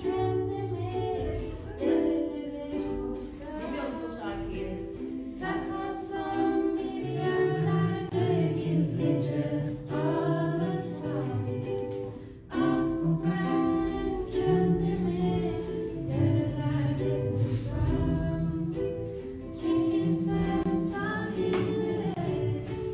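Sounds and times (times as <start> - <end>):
instrumental accompaniment: 0.0 - 22.9
woman singing slow song: 0.0 - 22.9.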